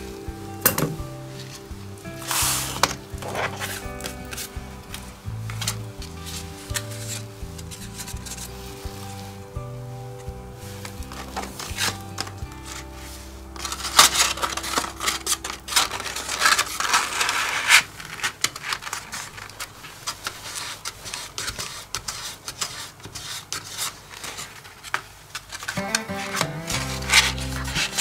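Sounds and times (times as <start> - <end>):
paper rustling and crackling: 1.2 - 28.0.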